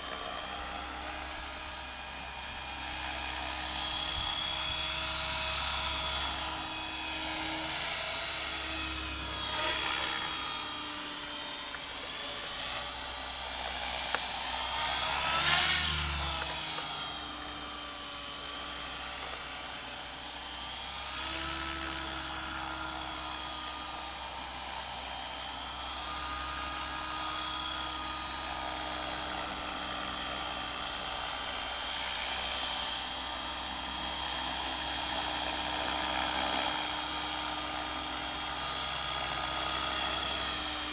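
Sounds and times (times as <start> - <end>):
rc helicopter whining: 0.0 - 40.9.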